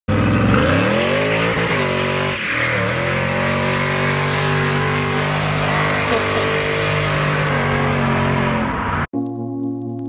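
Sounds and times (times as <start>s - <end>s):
car engine revving: 0.1s - 9.1s.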